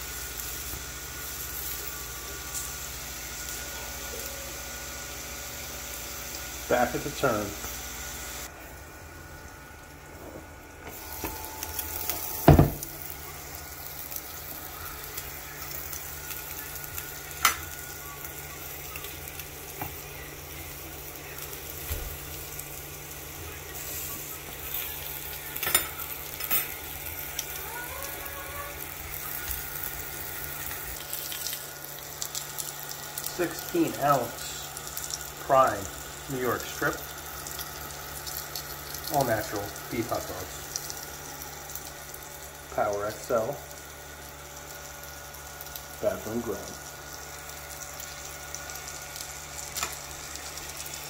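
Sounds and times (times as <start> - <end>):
grill fan hum: 0.0 - 51.0
meat sizzling on grill: 0.0 - 51.0.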